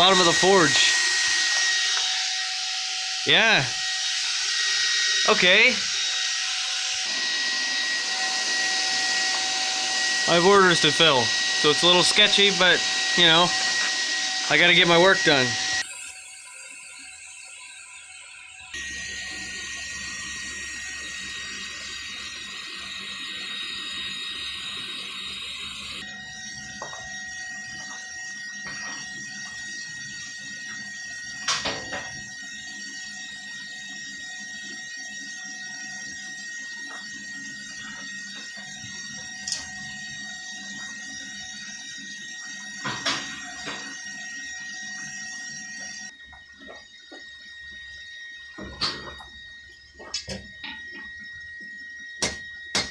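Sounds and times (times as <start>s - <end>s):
coal forge hissing: 0.0s - 15.9s, 26.0s - 52.9s.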